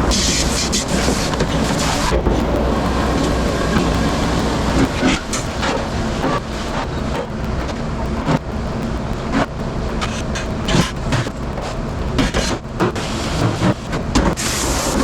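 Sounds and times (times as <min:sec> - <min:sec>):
machinery rumbling: 0:00.0 - 0:15.0.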